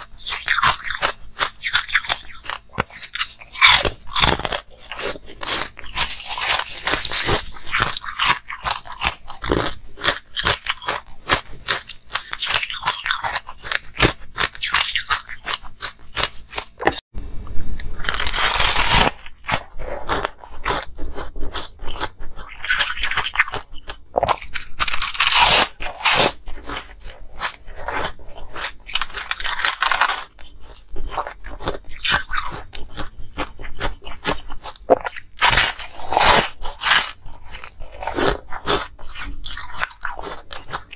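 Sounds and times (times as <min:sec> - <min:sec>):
ice being chewed: 0:00.0 - 0:17.0, 0:17.8 - 0:40.9.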